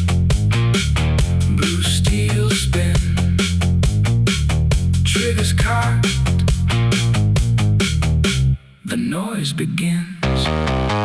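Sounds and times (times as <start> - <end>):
instrumental music with heavy bass: 0.0 - 8.7, 10.3 - 11.0.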